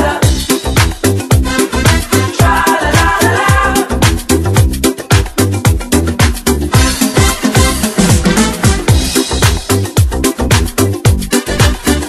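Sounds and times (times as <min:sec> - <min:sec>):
music with fast kick drum: 0:00.0 - 0:12.0.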